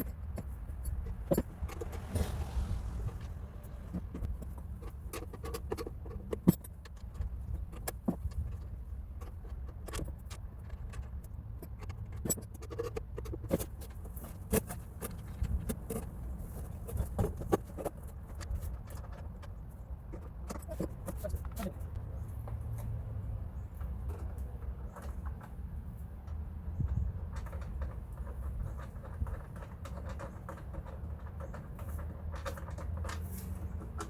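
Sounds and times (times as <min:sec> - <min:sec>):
wind rumble on microphone: 0:00.0 - 0:11.3, 0:13.5 - 0:32.1.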